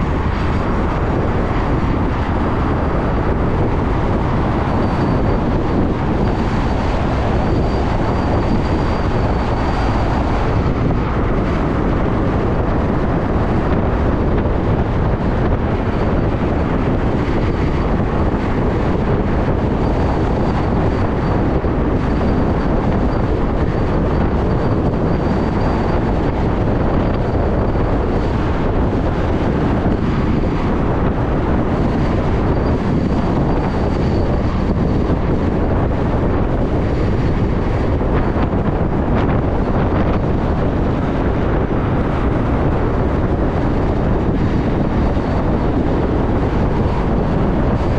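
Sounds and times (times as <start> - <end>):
road and traffic noise: 0.0 - 47.9
wind buffeting microphone: 0.0 - 47.9.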